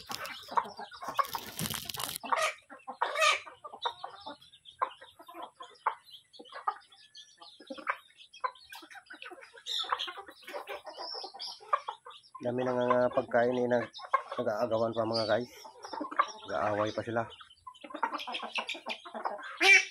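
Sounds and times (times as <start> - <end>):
chickens clucking: 0.0 - 19.9.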